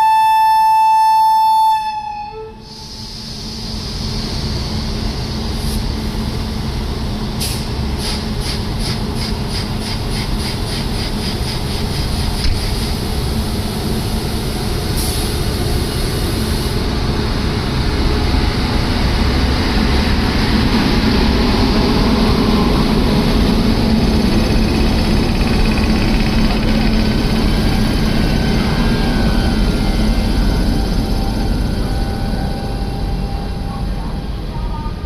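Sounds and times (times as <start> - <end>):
train rumbling: 2.3 - 35.0.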